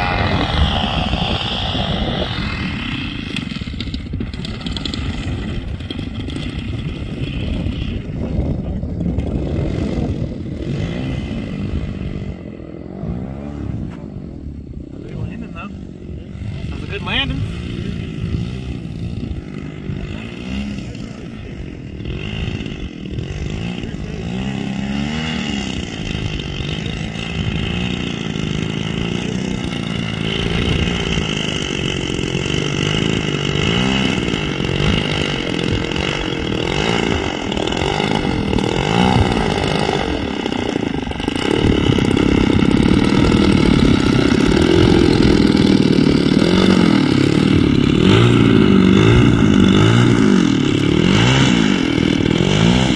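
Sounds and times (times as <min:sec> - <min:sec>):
model airplane engine running: 0:00.0 - 0:52.9.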